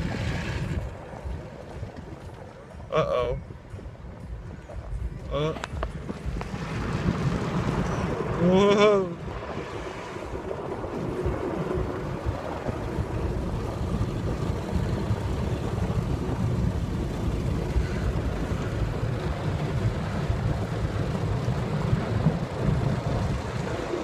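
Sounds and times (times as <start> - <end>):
muffled car wash rumble: 0.0 - 24.0.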